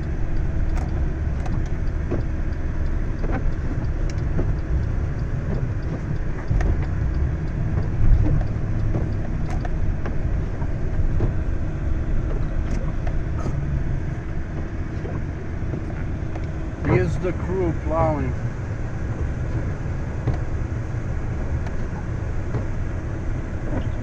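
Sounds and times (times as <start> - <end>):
engine low rumble: 0.0 - 24.0.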